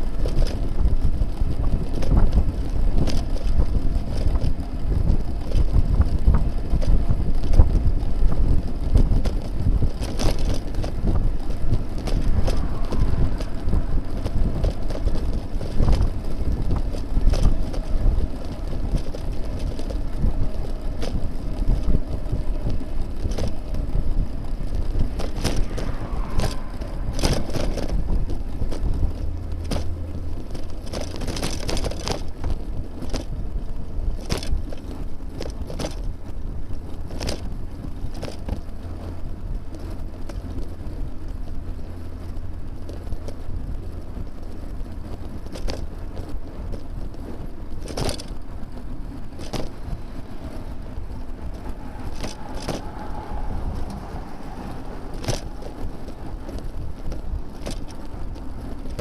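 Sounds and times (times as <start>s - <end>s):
bicycle clicks and rattles: 0.0s - 59.0s
wind and road rumble: 0.0s - 59.0s.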